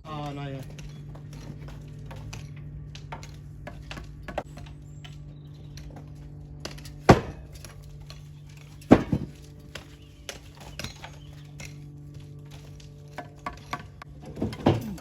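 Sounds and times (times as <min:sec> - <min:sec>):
steady low hum: 0:00.0 - 0:15.0
metal tools knocking on stone: 0:00.2 - 0:15.0.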